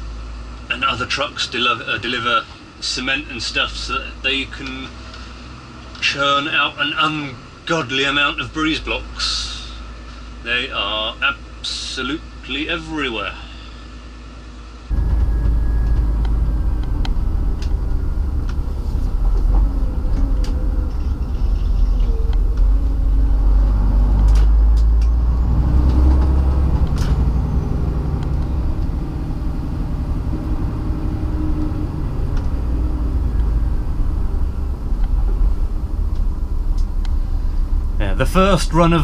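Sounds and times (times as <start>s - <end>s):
truck engine and road noise: 0.0s - 39.0s.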